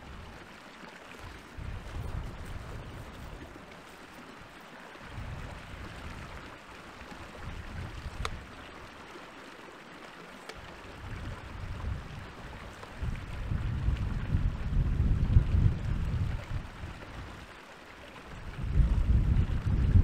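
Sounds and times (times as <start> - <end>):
brook babbling over rocks: 0.0 - 20.0
wind rumble on microphone: 1.1 - 9.0, 10.6 - 20.0.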